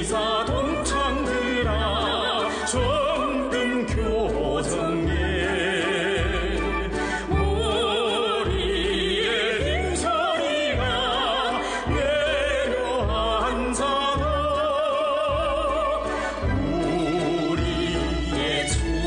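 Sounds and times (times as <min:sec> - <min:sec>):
instrumental accompaniment with bass: 0:00.0 - 0:19.0
person singing with vibrato: 0:00.0 - 0:19.0.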